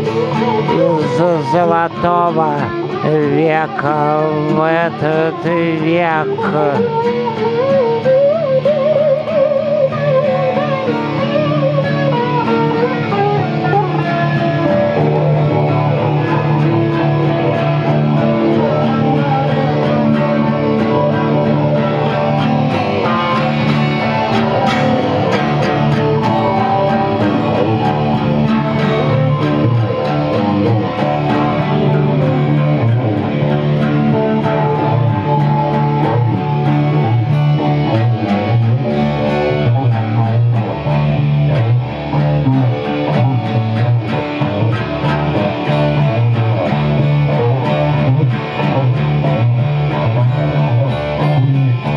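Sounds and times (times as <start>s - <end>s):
acoustic guitars strumming chords: 0.0s - 51.9s
wavering held note: 0.0s - 51.9s.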